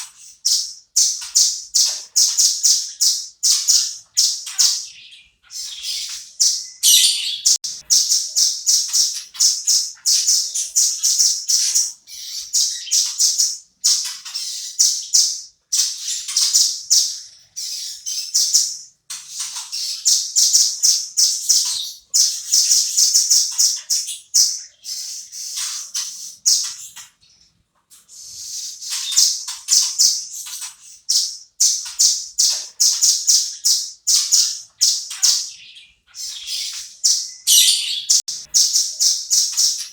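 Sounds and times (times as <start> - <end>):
bird chattering calls: 0.0 - 27.2, 28.0 - 39.9.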